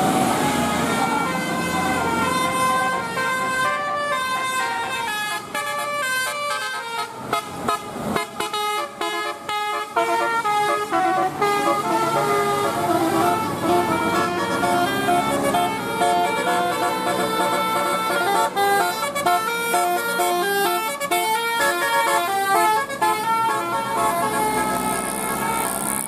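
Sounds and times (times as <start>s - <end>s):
bus engine: 0.0s - 26.0s
musical air horn: 0.3s - 26.0s.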